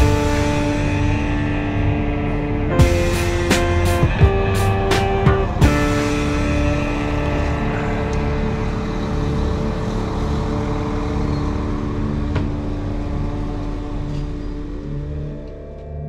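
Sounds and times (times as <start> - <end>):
rushing noise: 0.0 - 15.2
vehicle engine hum: 0.0 - 16.0.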